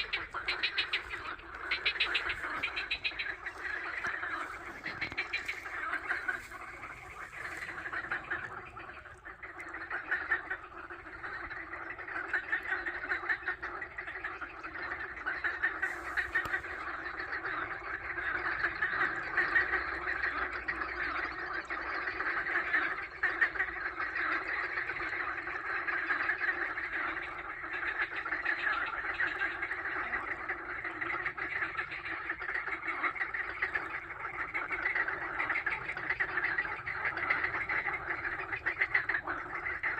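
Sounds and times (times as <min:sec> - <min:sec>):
chorus of rapid animal calls: 0:00.0 - 0:39.9.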